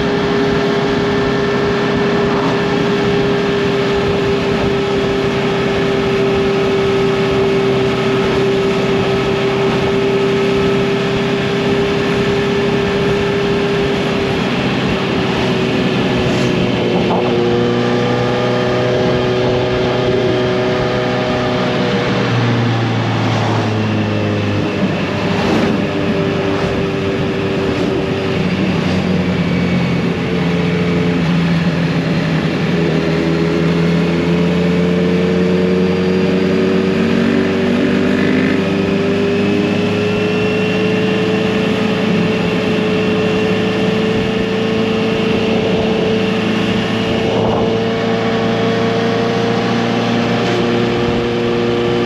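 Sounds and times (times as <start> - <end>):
motorcycle exhaust while riding: 0.0 - 52.0.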